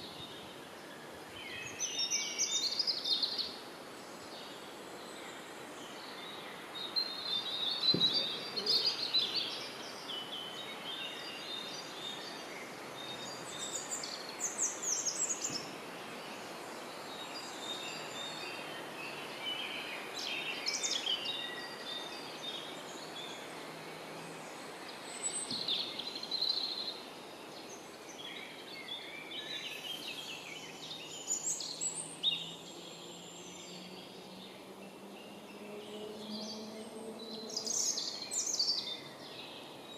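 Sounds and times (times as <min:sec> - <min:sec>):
background hiss: 0:00.0 - 0:39.9
songbird singing: 0:00.0 - 0:39.9.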